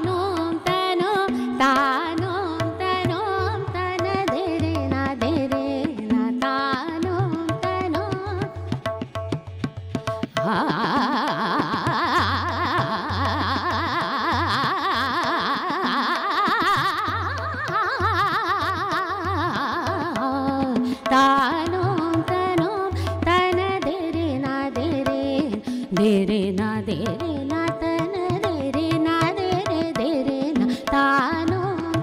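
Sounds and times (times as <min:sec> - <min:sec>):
woman singing classical vocals: 0:00.0 - 0:08.7, 0:10.4 - 0:32.0
tabla strokes: 0:00.0 - 0:32.0.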